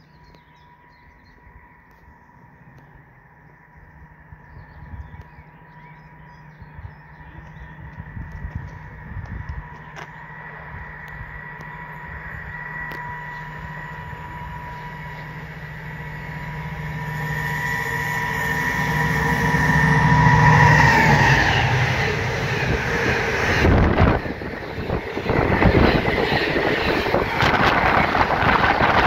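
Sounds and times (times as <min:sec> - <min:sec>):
locomotive whine: 0:00.0 - 0:29.0.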